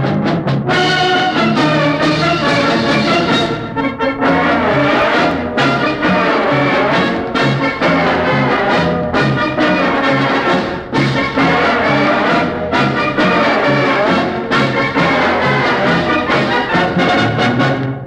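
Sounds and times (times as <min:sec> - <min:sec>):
brass band playing a march: 0:00.0 - 0:18.0.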